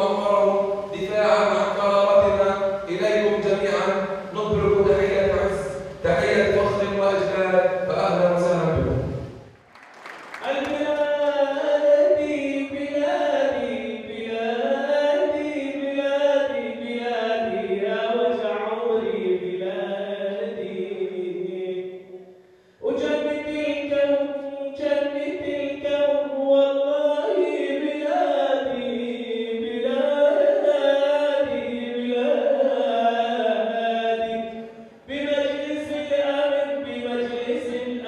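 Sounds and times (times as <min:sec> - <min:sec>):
man chanting into a microphone: 0:00.0 - 0:09.3, 0:10.4 - 0:38.0.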